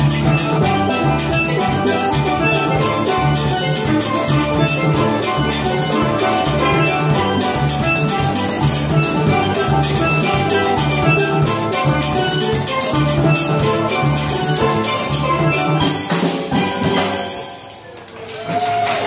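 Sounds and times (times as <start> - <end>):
bass guitar: 0.0 - 17.5
drum kit beat: 0.0 - 17.8
steel pan band playing: 0.0 - 17.9.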